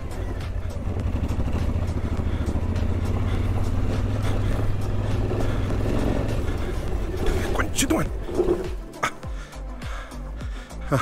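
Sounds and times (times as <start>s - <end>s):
motorcycle engine running under load: 0.0s - 10.6s.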